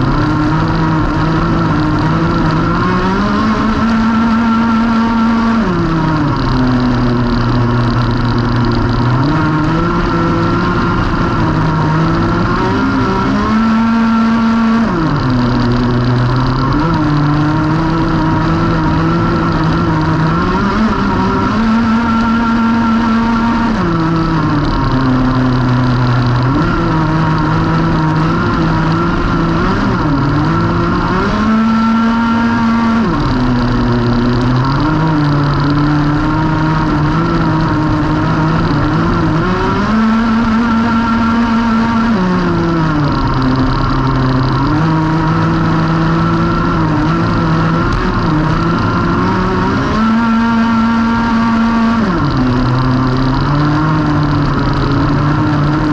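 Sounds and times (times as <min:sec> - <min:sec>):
racing kart engine: 0:00.0 - 0:55.9.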